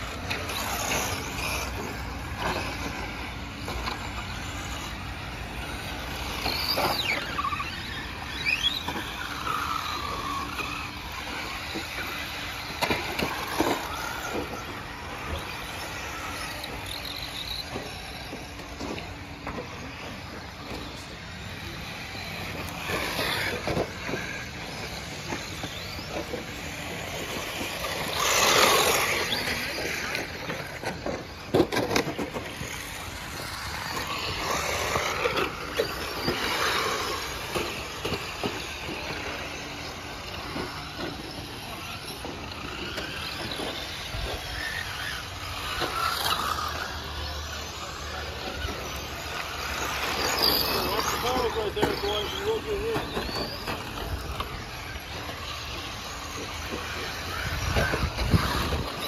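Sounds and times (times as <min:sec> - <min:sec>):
rc car motor whine: 0:00.0 - 0:59.0.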